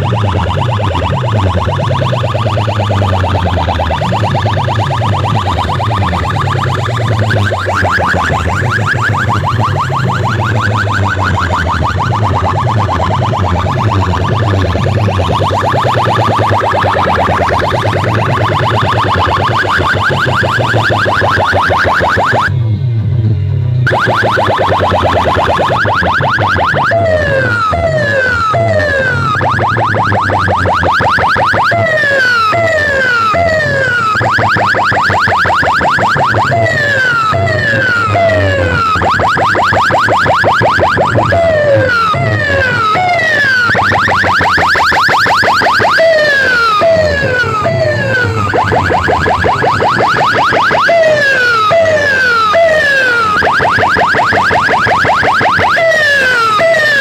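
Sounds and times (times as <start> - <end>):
electronic multi-tone siren: 0.0 - 57.0.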